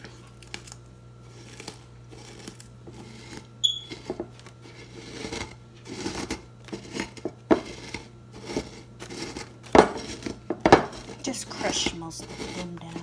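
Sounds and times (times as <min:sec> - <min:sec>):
snacks crunching in glass dish: 0:00.0 - 0:11.6.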